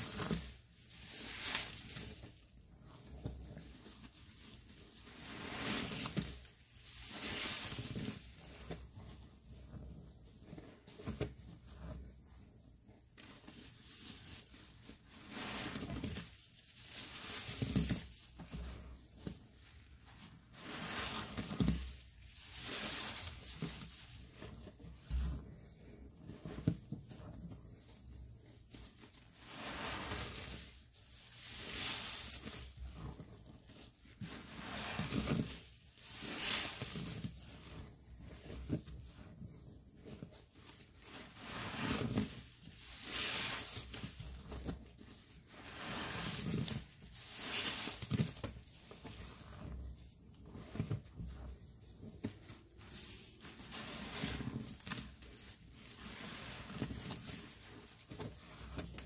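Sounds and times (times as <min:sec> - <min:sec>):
soapy sponges squelching: 0:00.0 - 0:59.0.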